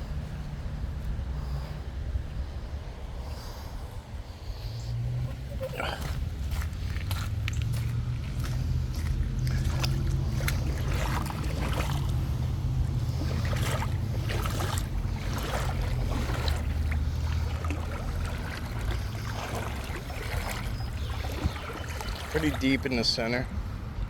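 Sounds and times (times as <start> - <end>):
steady low rumble: 0.0 - 24.0
water sloshing around wading legs: 0.0 - 24.0.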